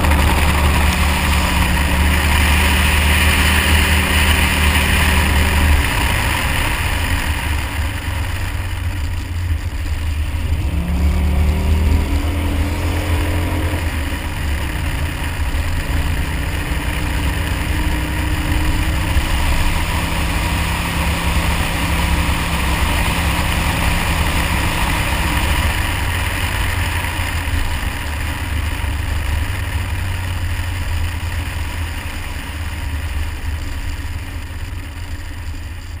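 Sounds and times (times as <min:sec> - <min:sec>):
car engine running hard: 0:00.0 - 0:36.0
wind rumble: 0:00.0 - 0:36.0.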